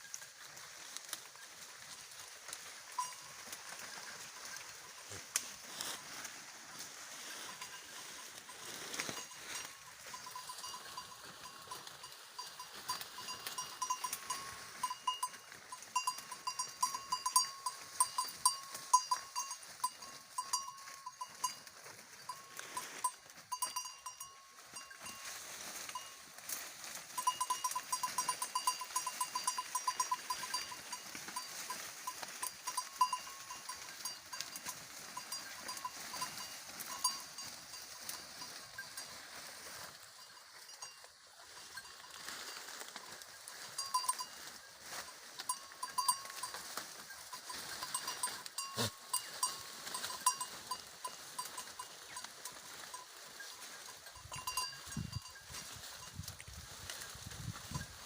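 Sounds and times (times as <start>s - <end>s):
goat bells clinking: 0.0s - 58.0s.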